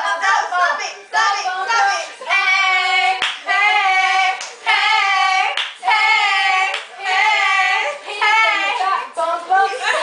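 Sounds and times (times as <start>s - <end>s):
girls singing together: 0.0s - 10.0s.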